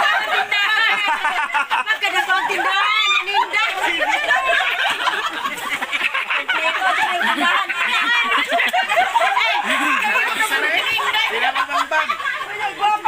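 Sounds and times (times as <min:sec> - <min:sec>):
women laughing and chatting: 0:00.0 - 0:13.0.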